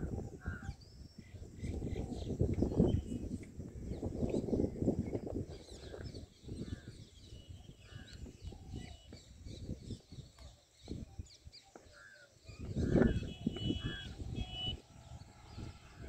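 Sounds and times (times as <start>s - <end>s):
birds chirping and calling: 0.0s - 16.0s
wind gusts buffeting microphone: 0.0s - 16.0s.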